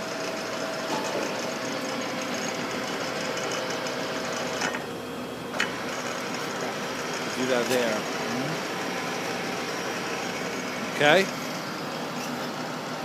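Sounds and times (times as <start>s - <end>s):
lathe mechanical whine: 0.0s - 13.0s.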